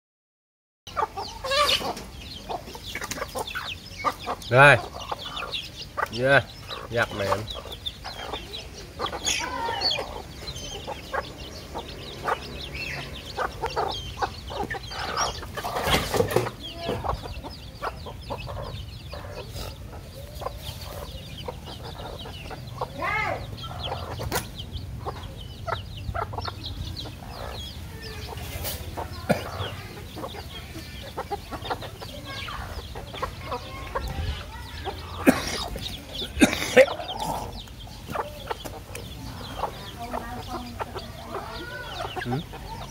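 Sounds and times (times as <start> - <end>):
chicks peeping: 0.9 - 42.9
hens clucking: 0.9 - 42.9.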